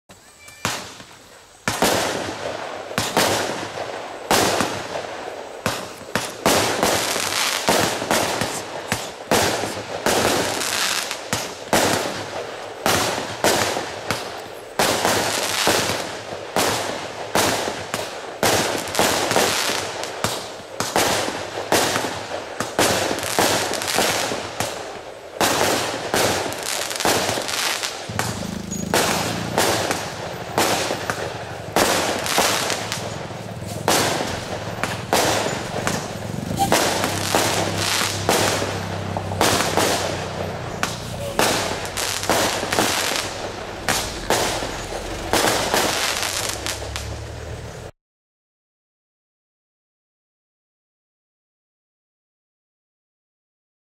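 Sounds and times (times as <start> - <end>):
fireworks shots bursting: 0.5 - 47.9.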